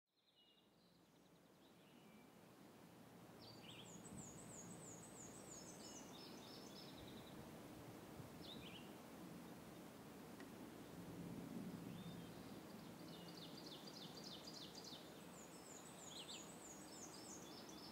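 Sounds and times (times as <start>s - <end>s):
faint birdsong chirps and trills: 0.1s - 7.7s, 8.3s - 17.9s.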